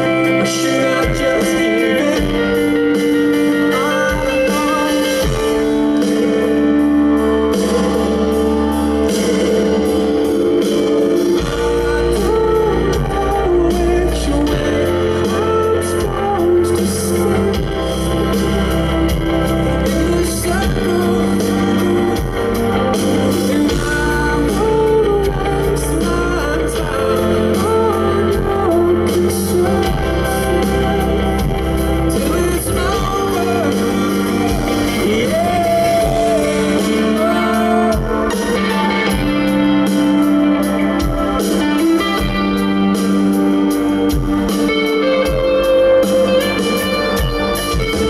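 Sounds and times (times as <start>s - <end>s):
man singing: 0.0s - 43.0s
bass guitar: 0.0s - 48.0s
electric guitar: 0.0s - 48.0s
rock band playing live: 0.0s - 48.0s
deep drum beat: 1.0s - 48.0s.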